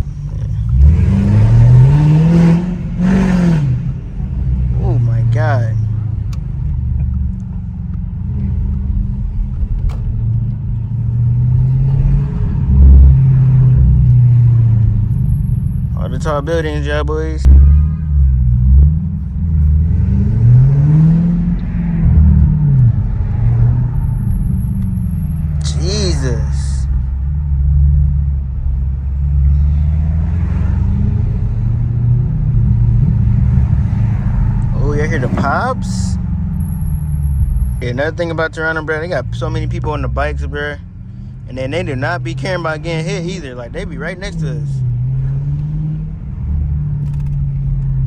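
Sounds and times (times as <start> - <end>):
car exhaust rumbling: 0.0 - 48.0.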